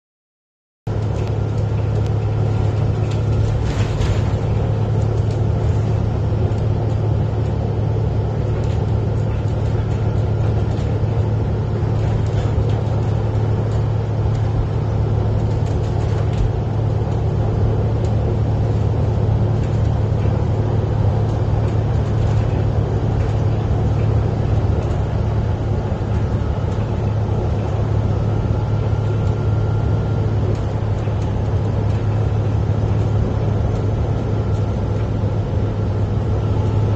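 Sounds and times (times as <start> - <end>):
vehicle engine and tyre noise: 0.9 - 36.9.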